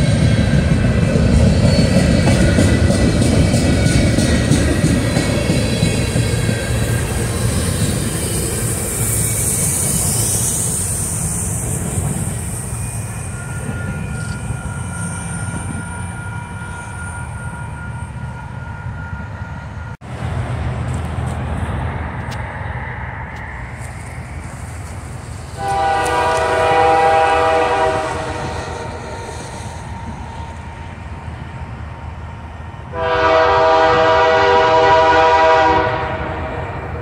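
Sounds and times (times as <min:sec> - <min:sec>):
freight train rumbling: 0:00.0 - 0:37.0
wheels squealing on rails: 0:00.0 - 0:37.0.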